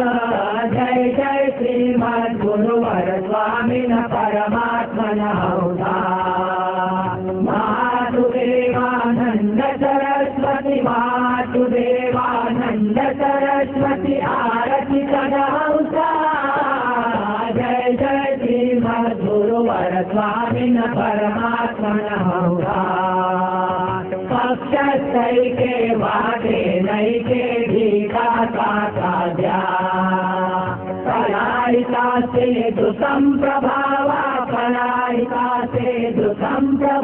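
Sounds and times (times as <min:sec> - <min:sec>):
harmonium: 0:00.0 - 0:37.0
men singing a devotional chant: 0:00.0 - 0:37.0
tabla: 0:00.0 - 0:37.0.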